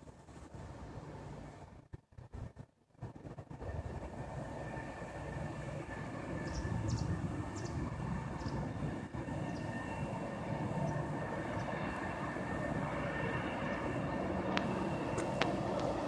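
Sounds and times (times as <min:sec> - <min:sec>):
train rumbling: 0:00.0 - 0:16.0
faint whine: 0:00.2 - 0:16.0.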